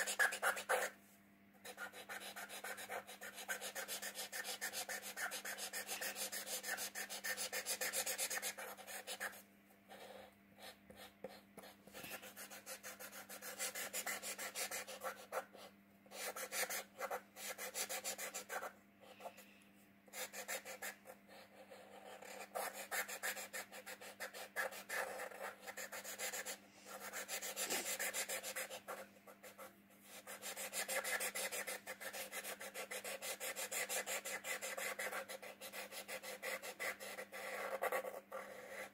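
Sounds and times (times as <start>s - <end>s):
marker scratching on paper: 0.0s - 1.0s, 1.6s - 19.4s, 20.1s - 38.9s.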